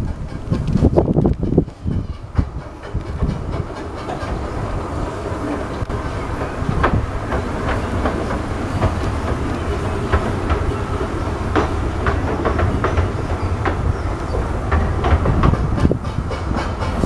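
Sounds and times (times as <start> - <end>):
train coaches rumbling: 0.0 - 17.0
wheels clacking over rail joints: 0.0 - 17.0.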